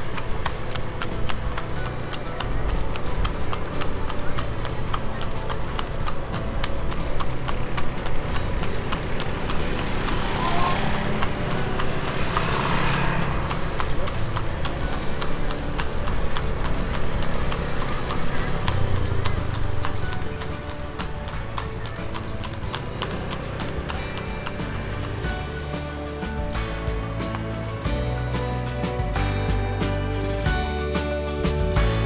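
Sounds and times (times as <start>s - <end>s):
horse hooves clip-clopping on asphalt: 0.0s - 31.8s.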